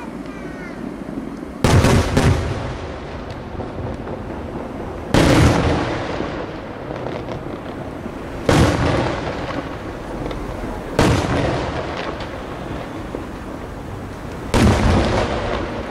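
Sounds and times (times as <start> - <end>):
firework booms with rumbling echo: 0.8 - 15.9.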